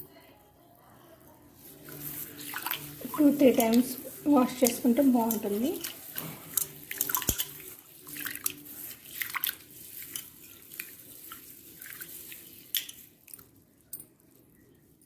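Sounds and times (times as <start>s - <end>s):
lentils sloshing in water: 1.6s - 14.4s.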